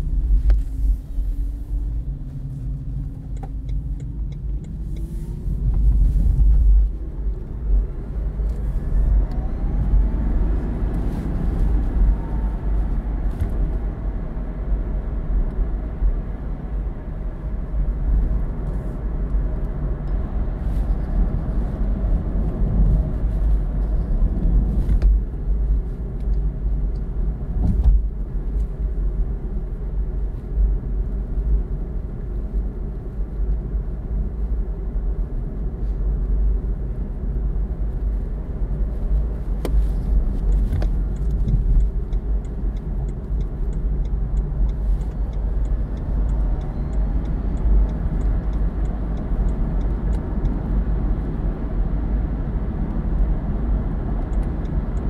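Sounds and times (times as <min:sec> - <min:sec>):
tyre and road rumble: 0:00.0 - 0:55.0
wind noise inside car: 0:00.0 - 0:55.0.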